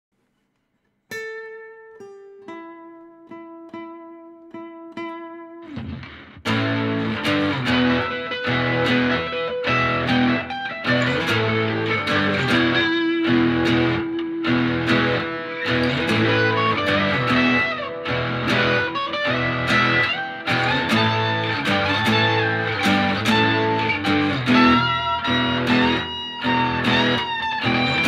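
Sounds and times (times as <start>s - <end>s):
instrumental guitar music: 0.3s - 28.0s.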